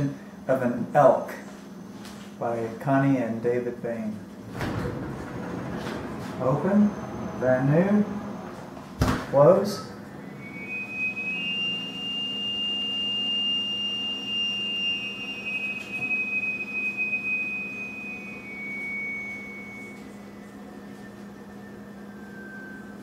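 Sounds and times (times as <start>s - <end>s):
steady low hum: 0.0s - 23.0s
freezer whistling: 3.9s - 23.0s.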